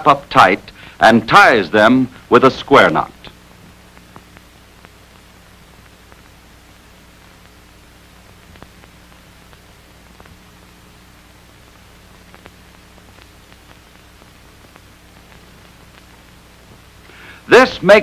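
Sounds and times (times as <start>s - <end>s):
film soundtrack surface noise: 0.0s - 18.0s.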